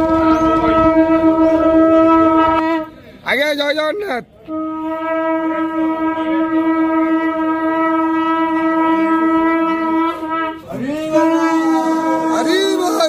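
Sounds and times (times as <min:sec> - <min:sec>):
conch shell blown: 0:00.0 - 0:03.2, 0:04.4 - 0:13.0.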